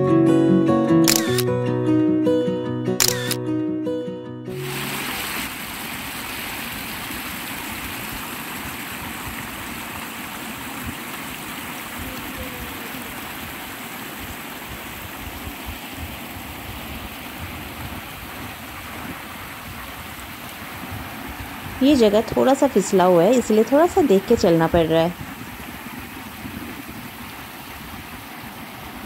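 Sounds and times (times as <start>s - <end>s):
stream water rushing over rocks: 4.5s - 29.0s.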